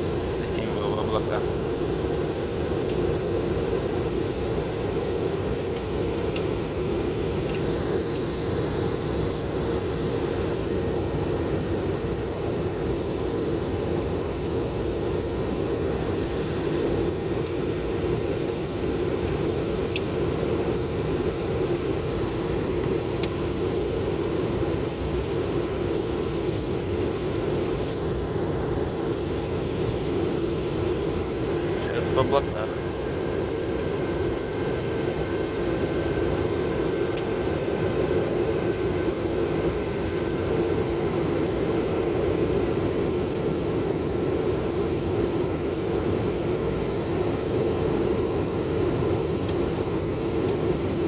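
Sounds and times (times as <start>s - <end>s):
airliner cabin drone: 0.0s - 51.0s.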